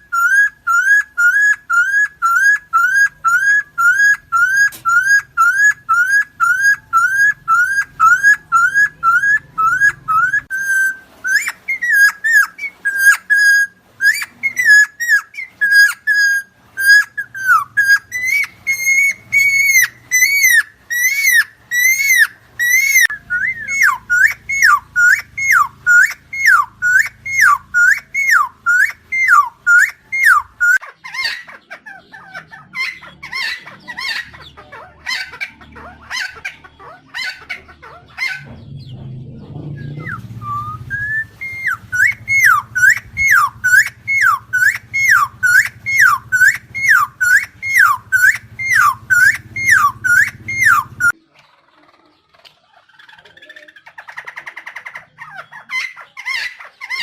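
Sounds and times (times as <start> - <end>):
bird whistled calls: 0.0 - 34.5, 39.6 - 51.2
rough bird calls: 0.0 - 57.0.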